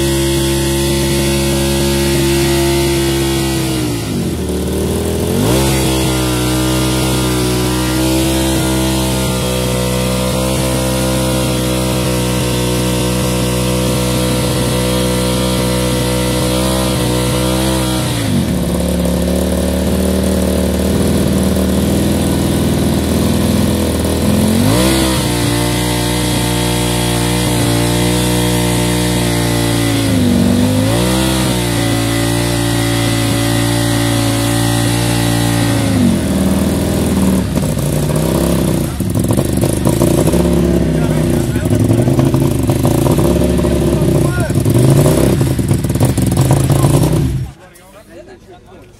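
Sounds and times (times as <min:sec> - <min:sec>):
engine running: 0:00.0 - 0:48.9.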